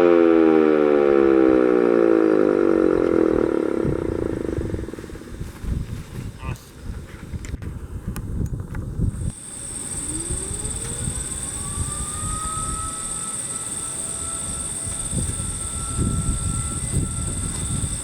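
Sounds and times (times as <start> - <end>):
warning siren winding up: 0.0 - 5.6, 9.1 - 18.0
thin high whine: 0.0 - 6.6, 9.1 - 18.0
low rumble: 0.2 - 7.1, 8.8 - 18.0.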